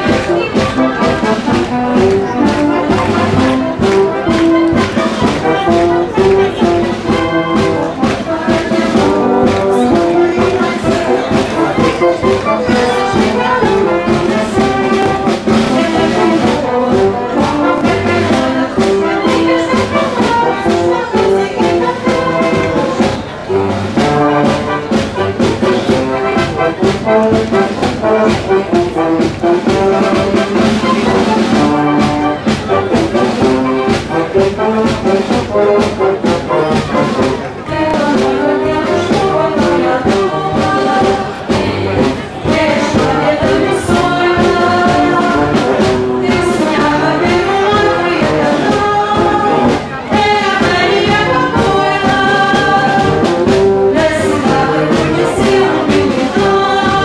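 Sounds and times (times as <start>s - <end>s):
brass band music: 0.0s - 57.0s.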